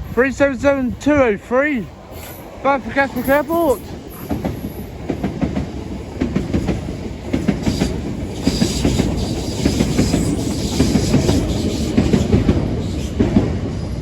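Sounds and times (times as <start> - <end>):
electric train running past: 0.0 - 14.0.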